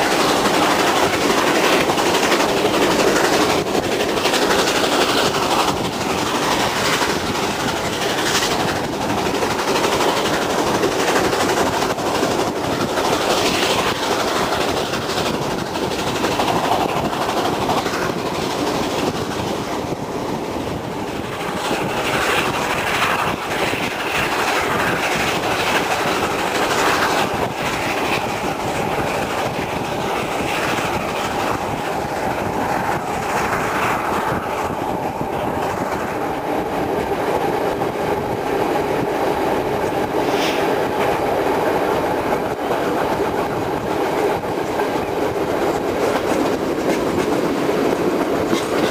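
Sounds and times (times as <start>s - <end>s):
train wheel and rail noise: 0.0s - 48.9s.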